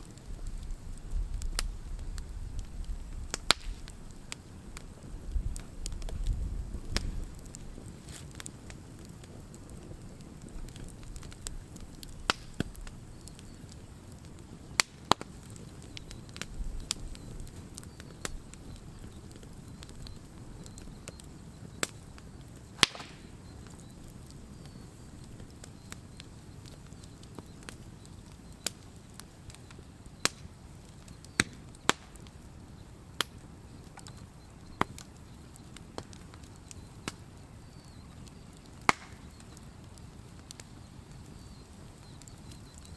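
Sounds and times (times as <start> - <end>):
firewood popping and cracking: 0.0 - 42.9
flames rushing: 0.0 - 42.9.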